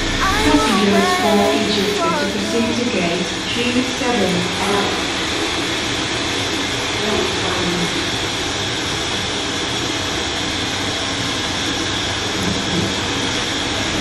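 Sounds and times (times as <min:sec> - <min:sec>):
electric hand dryer running: 0:00.0 - 0:12.6.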